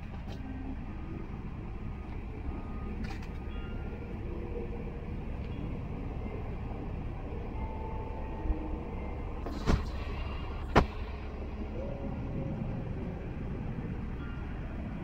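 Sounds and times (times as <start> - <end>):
car approaching: 0.0 - 15.0
street traffic rumble: 0.0 - 15.0.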